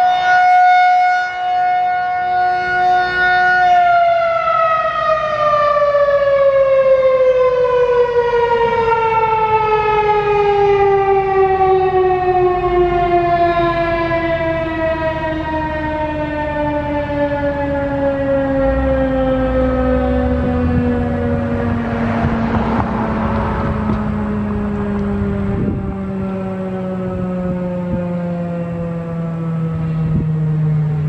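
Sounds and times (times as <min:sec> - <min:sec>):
two-tone siren winding down: 0:00.0 - 0:31.0.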